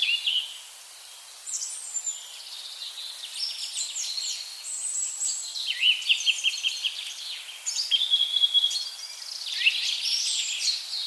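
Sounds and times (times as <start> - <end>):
small birds singing: 0.0 - 11.0.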